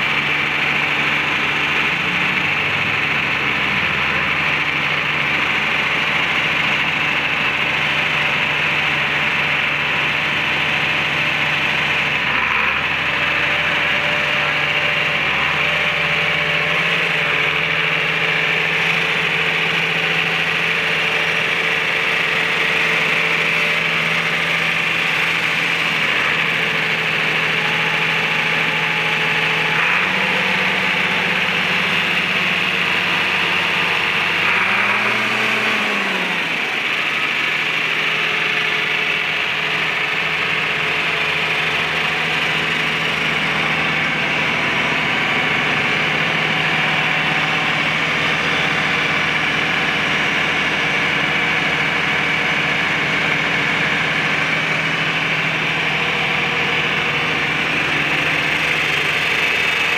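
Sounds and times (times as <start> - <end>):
diesel tractor engine idling: 0.0 - 59.9
steady high whine: 0.0 - 59.9.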